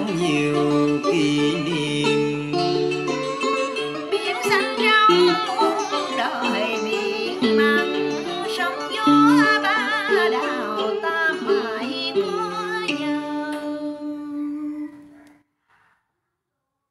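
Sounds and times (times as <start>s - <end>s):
instrumental backing: 0.0s - 15.2s
person singing with wide vibrato: 0.0s - 15.4s.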